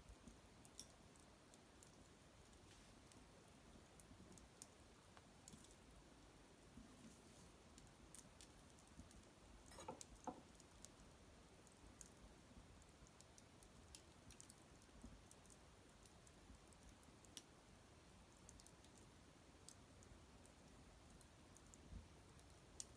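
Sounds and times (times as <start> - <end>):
small wood fire crackling: 0.0 - 22.9.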